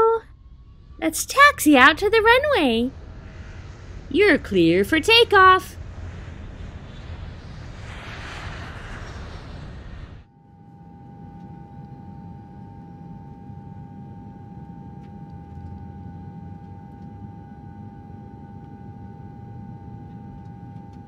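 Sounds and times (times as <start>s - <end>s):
jet engine drone: 0.0s - 21.0s.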